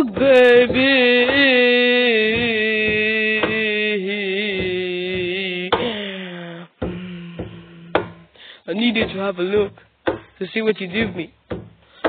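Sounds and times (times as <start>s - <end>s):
low thumps: 0.0s - 6.1s, 6.7s - 11.9s.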